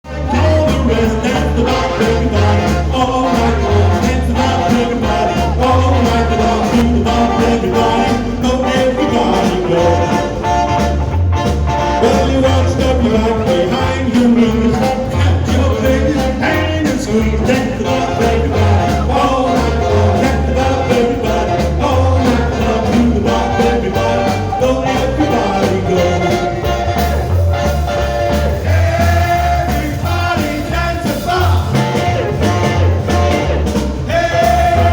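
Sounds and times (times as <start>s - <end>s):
live band playing: 0.0s - 34.9s
steady bass beat: 0.0s - 34.9s.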